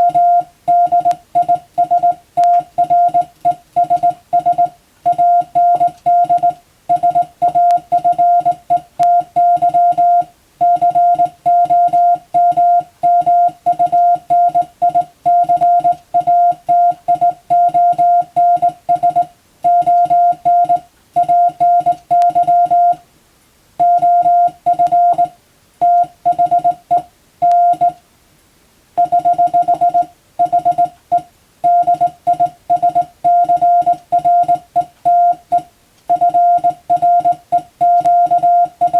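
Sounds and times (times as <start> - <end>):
morse code beeps: 0.0 - 23.0, 23.8 - 28.0, 29.0 - 38.9.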